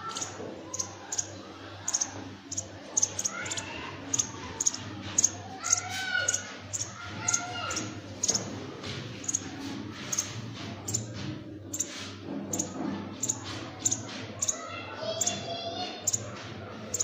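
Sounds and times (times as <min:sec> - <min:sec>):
nestlings chirping: 0:00.0 - 0:17.0.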